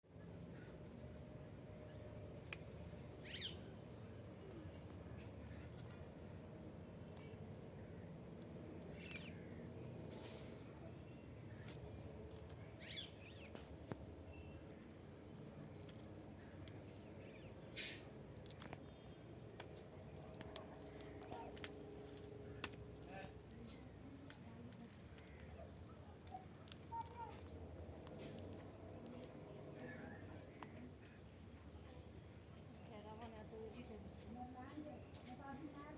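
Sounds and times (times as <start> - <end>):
insect chirping: 0.1 - 35.9.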